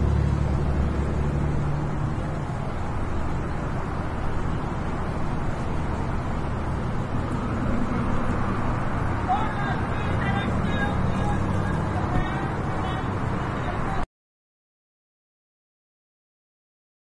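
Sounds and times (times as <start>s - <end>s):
traffic noise: 0.0s - 14.1s
vehicle engine hum: 0.0s - 14.1s.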